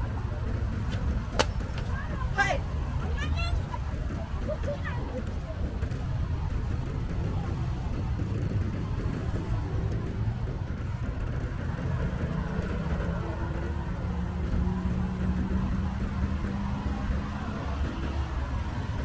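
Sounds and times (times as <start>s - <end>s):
low rumble of passing vehicles: 0.0s - 19.0s
vehicle engine hum: 0.0s - 19.0s.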